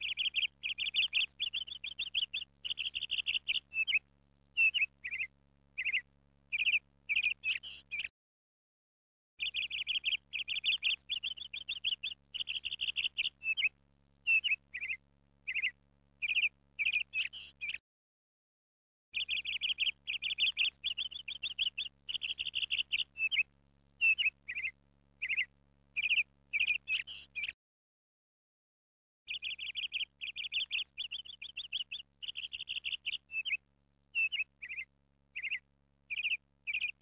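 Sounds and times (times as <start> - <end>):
faint steady hum: 0.0 - 8.1, 9.4 - 17.8, 19.2 - 27.6, 29.3 - 37.0
small bird chirping: 0.0 - 8.1, 9.4 - 17.8, 19.2 - 27.6, 29.3 - 37.0.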